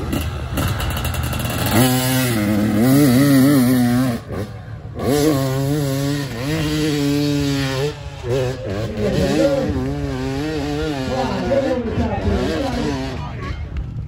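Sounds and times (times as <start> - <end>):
dirt bike engine revving: 0.0 - 13.3.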